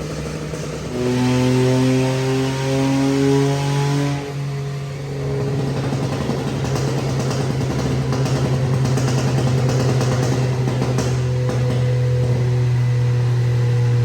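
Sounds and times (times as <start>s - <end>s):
car engine droning on dynamometer: 0.0s - 14.0s.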